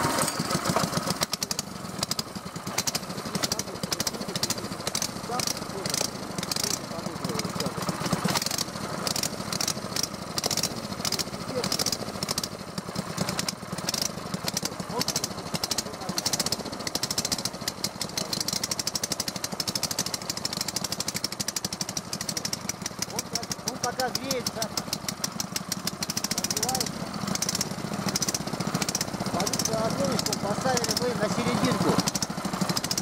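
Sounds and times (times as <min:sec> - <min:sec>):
small petrol engines running: 0:00.0 - 0:33.0.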